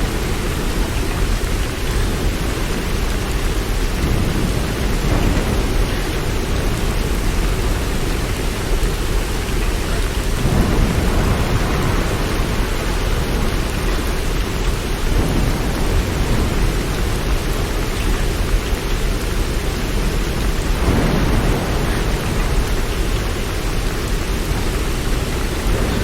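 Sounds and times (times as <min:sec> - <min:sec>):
deep rumble: 0:00.0 - 0:26.0
steady rain: 0:00.0 - 0:26.0.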